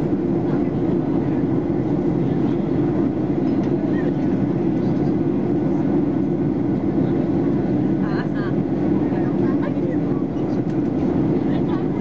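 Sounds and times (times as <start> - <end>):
jet engines humming: 0.0 - 12.0.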